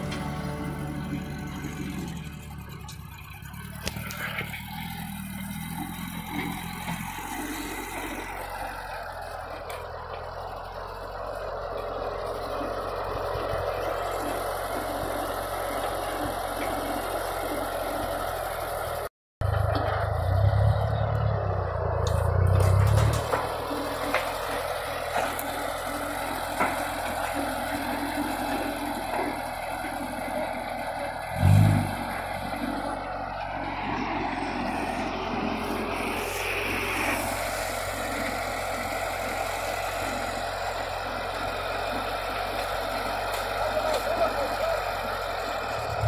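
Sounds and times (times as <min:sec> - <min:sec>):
small loader engine running: 0:00.0 - 0:46.0.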